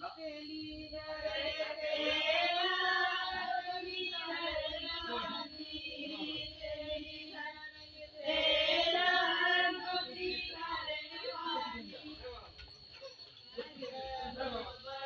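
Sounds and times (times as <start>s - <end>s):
women singing together: 0.0s - 12.4s, 13.4s - 15.0s.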